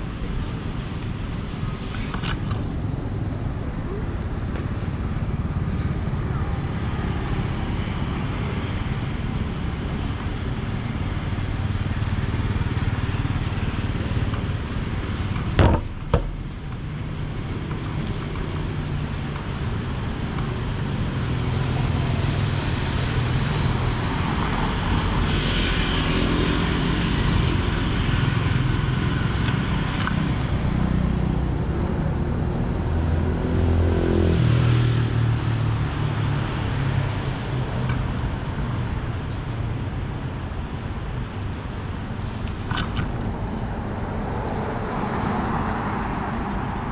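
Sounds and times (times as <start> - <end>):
street traffic passing: 0.0 - 46.9.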